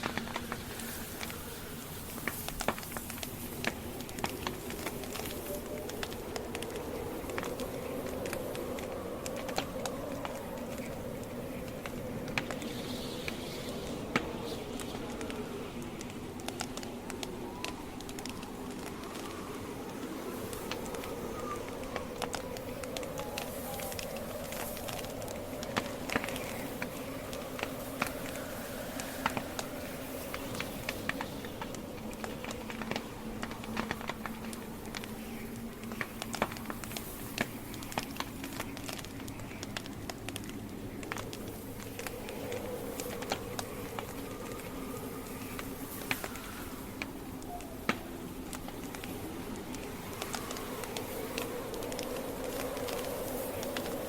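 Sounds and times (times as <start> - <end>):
burning logs crackling and popping: 0.0 - 54.0
campfire flames rushing: 0.0 - 54.0.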